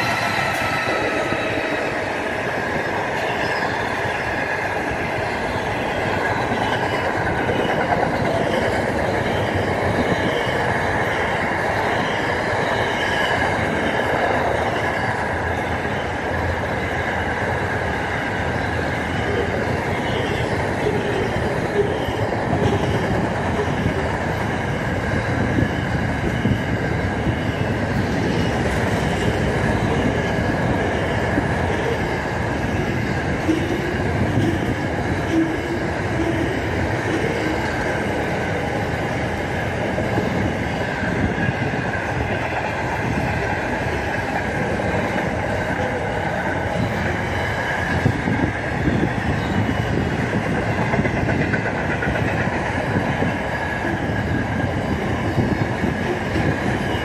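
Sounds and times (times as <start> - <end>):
freight train wheels rumbling: 0.0 - 57.0
rail joint clicks: 0.0 - 57.0.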